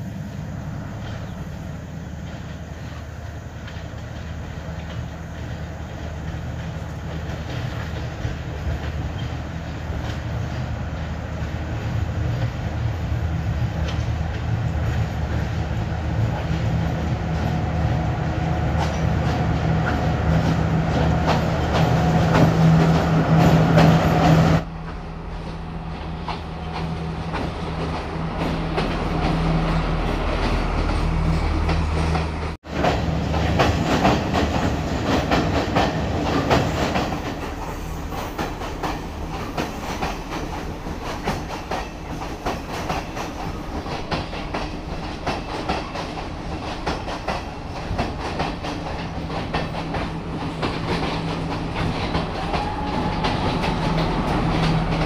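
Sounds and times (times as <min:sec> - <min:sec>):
train wheels clattering on rails: 0:02.1 - 0:55.0.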